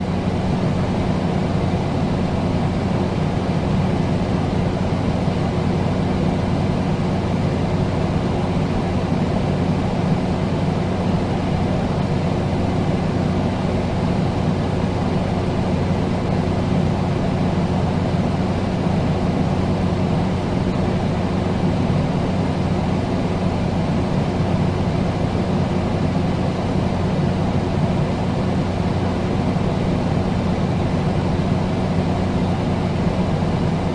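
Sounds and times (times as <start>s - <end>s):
air conditioner air rush: 0.0s - 33.9s
low electrical hum: 0.0s - 33.9s.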